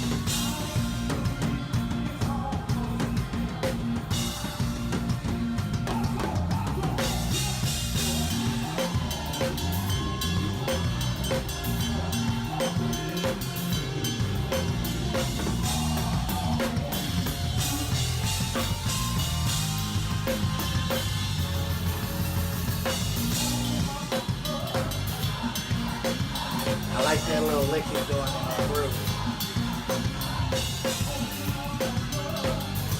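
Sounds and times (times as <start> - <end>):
drum kit playing a groove: 0.0 - 32.9
stepping bass line: 0.0 - 32.9.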